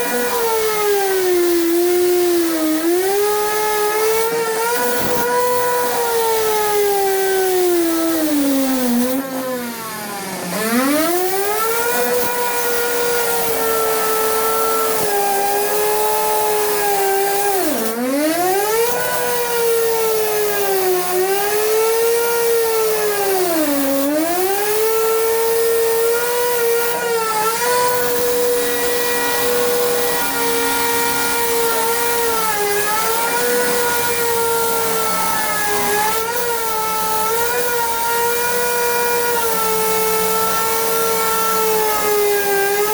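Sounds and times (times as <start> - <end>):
power cutting tool whining: 0.0 - 42.9.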